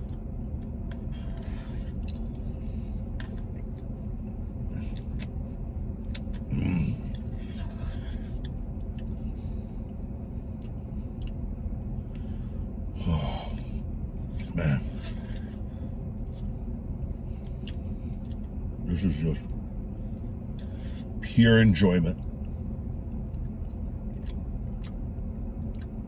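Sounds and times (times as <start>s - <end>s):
low car cabin hum: 0.0s - 26.0s.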